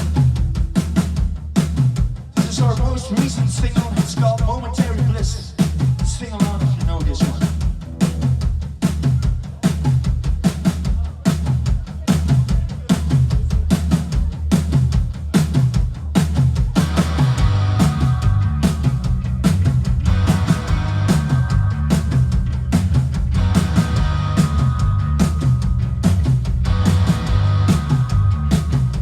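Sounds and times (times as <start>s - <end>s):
heavy bass line: 0.0s - 11.6s, 12.2s - 29.0s
bass drum and snare beat: 0.0s - 29.0s
punk band playing live: 0.0s - 29.0s.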